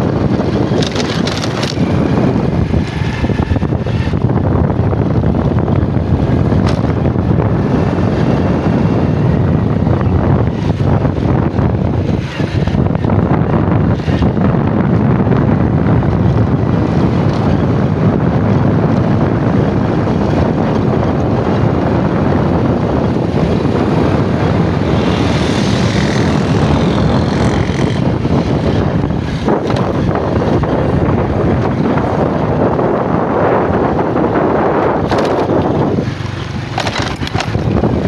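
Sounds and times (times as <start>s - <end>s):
vehicle moving along road: 0.0s - 38.0s
wind buffeting microphone: 0.0s - 38.0s.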